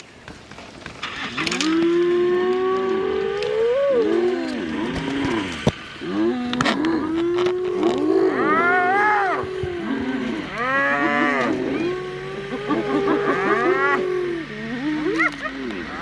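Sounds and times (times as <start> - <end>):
hyenas calling: 1.0 - 16.0.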